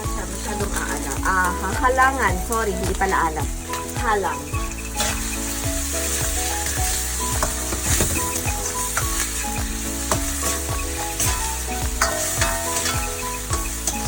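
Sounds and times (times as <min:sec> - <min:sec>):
vegetables sizzling in hot oil: 0:00.0 - 0:14.0
utensil clicking against pan: 0:02.5 - 0:14.0.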